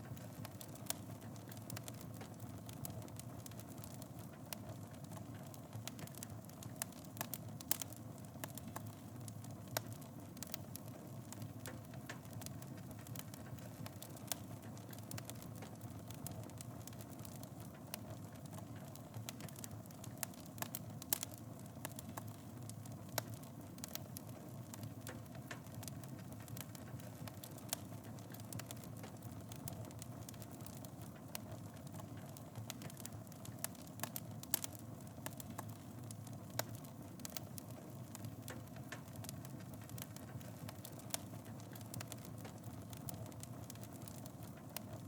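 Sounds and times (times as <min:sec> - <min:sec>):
fire burning: 0:00.0 - 0:45.0
fire crackling and popping: 0:00.0 - 0:45.0.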